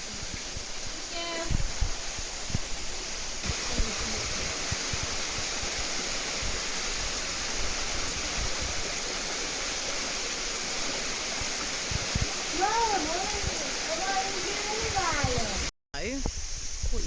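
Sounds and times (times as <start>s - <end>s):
waterfall rushing over rock: 0.0s - 15.7s.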